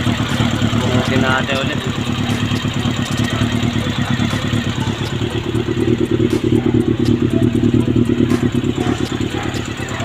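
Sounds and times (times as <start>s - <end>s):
light engine tick: 0.0s - 10.0s
motorcycle engine running: 0.0s - 10.0s.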